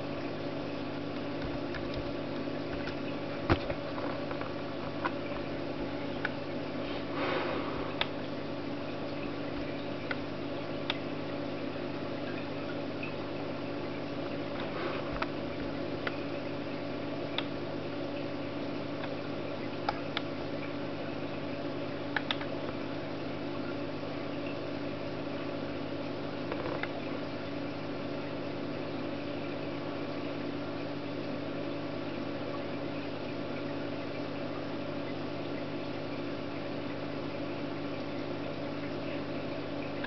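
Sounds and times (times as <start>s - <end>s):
machine hum: 0.0s - 40.0s.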